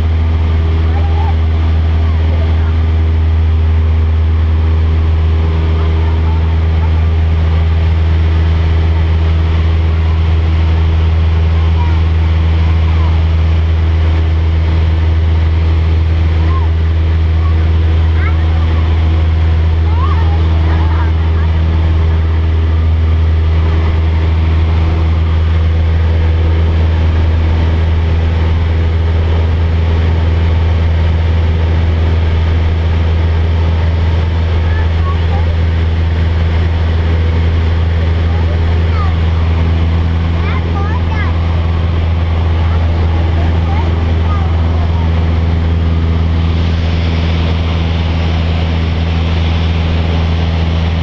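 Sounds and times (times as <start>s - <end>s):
airplane engine humming: 0.0s - 51.0s.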